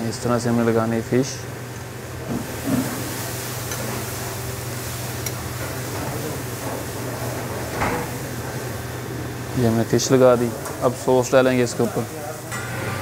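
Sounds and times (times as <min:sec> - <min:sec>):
kitchen machinery hum and hiss: 0:00.0 - 0:13.0.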